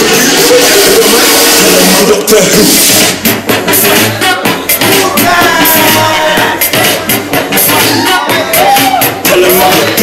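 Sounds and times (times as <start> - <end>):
entrance music over loudspeakers: 0.0 - 10.0.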